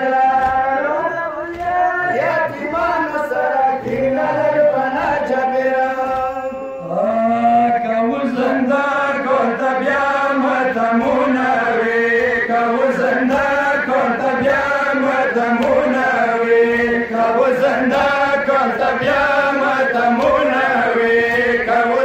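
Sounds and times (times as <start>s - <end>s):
men chanting mourning lament: 0.0s - 22.0s.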